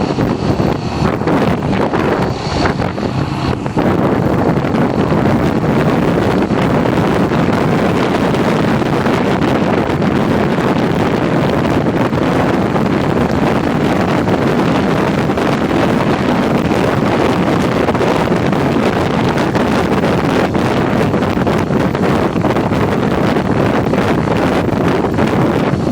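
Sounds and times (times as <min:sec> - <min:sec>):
motorcycle running: 0:00.0 - 0:25.9
wind rushing over microphone: 0:00.0 - 0:25.9.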